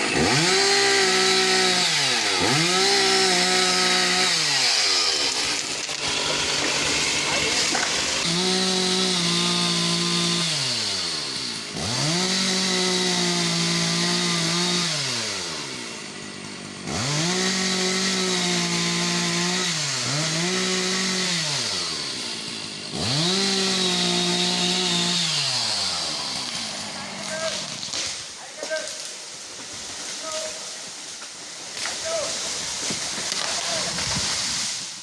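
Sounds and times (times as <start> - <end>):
chainsaw engine revving: 0.0 - 35.0.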